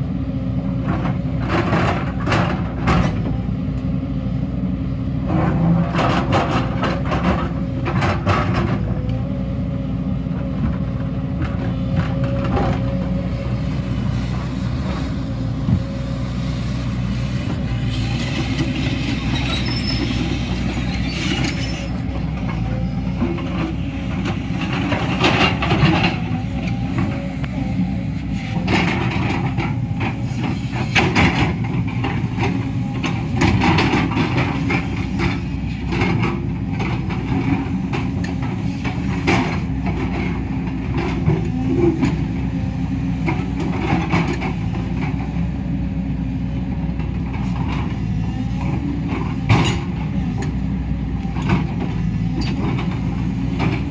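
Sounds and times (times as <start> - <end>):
excavator engine and hydraulics: 0.0 - 53.9.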